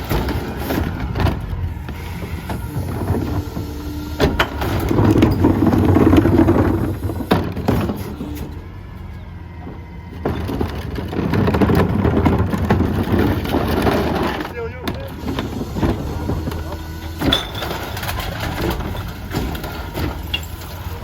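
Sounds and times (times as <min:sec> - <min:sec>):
garbage truck diesel engine rumble: 0:00.0 - 0:21.0.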